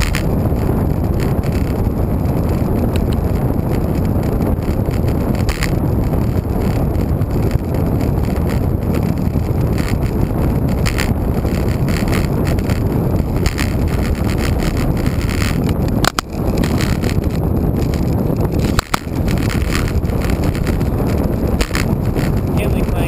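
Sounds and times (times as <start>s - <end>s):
tyre and road noise: 0.0s - 23.0s
wind rushing over microphone: 0.0s - 23.0s.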